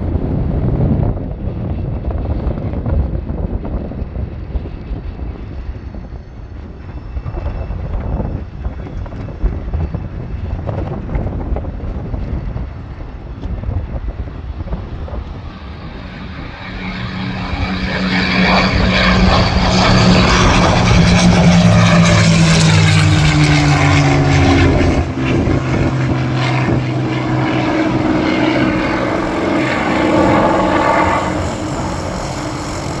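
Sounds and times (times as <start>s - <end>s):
propeller plane engine flying past: 0.0s - 33.0s.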